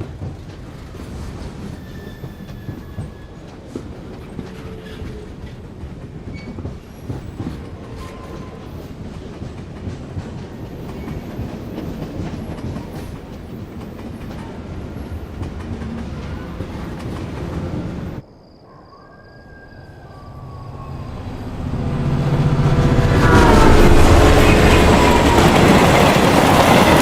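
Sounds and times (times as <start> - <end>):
train rumbling on rails: 0.0 - 18.3, 19.4 - 27.0.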